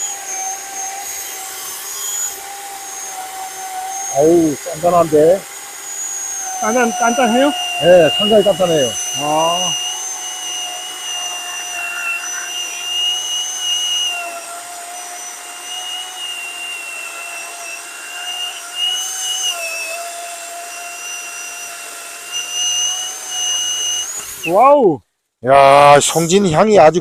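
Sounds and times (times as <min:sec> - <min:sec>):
electric chainsaw cutting log: 0:00.0 - 0:24.9.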